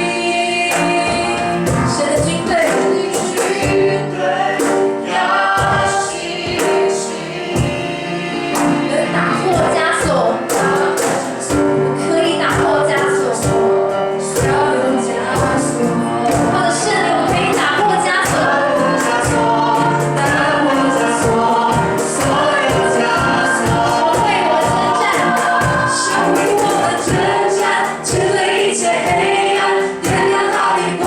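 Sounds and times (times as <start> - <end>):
band accompaniment: 0.0 - 31.0
group singing worship song: 0.0 - 31.0
steady drum beat: 0.6 - 31.0.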